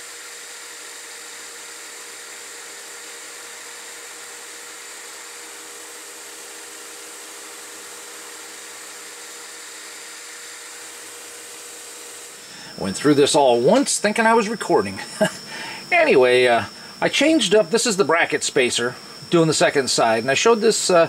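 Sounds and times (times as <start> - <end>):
metal lathe cutting: 0.1 - 21.0.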